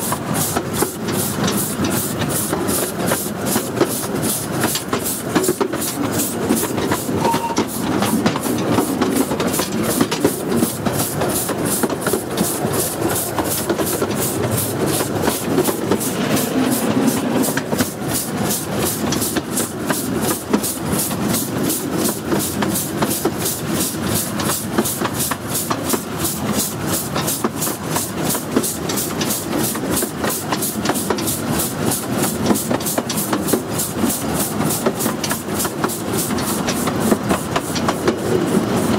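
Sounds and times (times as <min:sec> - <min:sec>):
steam locomotive beats: 0:00.0 - 0:38.9
wheels running on rail: 0:00.0 - 0:38.9.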